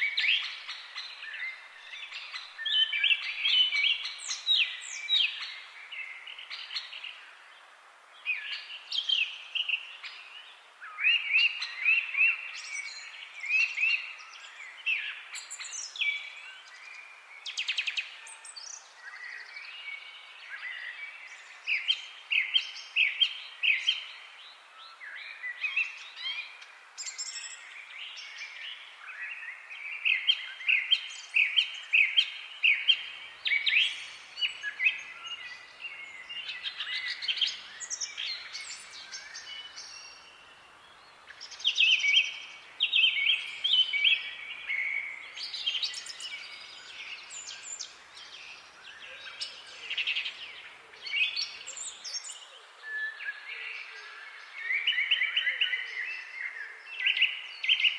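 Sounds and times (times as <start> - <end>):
faint background hiss: 0.0 - 57.9
birds chirping and trilling: 8.3 - 57.9.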